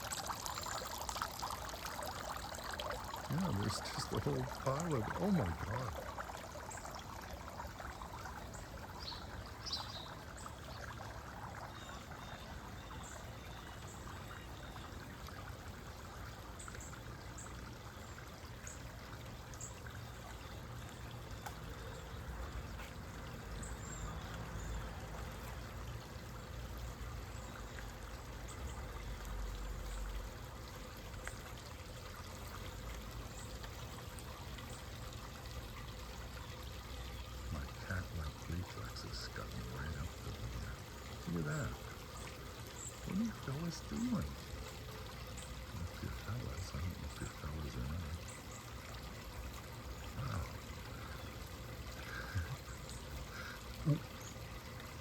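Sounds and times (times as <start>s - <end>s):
small birds chirping: 0.0s - 30.5s, 32.1s - 55.0s
water trickling: 0.0s - 55.0s.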